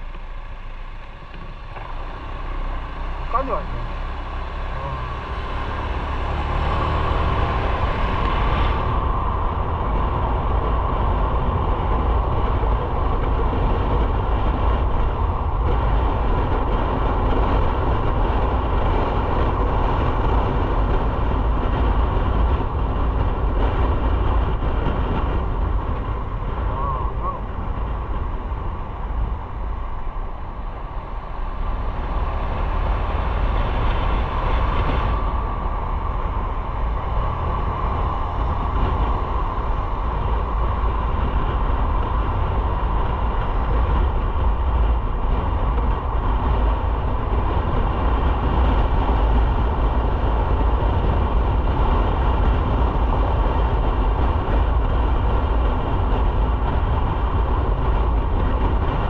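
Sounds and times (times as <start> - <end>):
motorcycle engine and road drone: 0.0 - 59.0
wind on microphone: 1.2 - 59.0.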